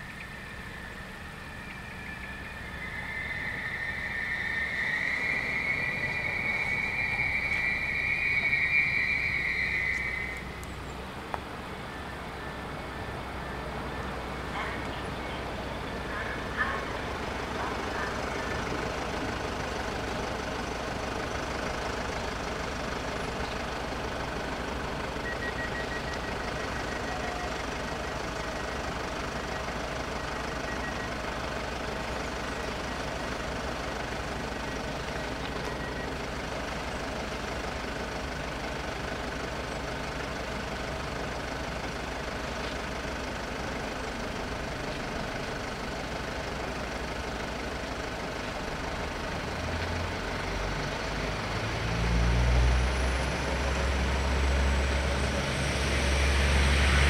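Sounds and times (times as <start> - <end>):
car engines idling: 0.0 - 57.0.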